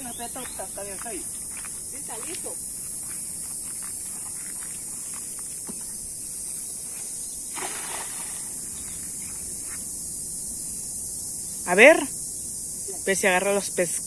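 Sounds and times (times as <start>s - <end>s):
cicadas droning chorus: 0.0s - 14.0s.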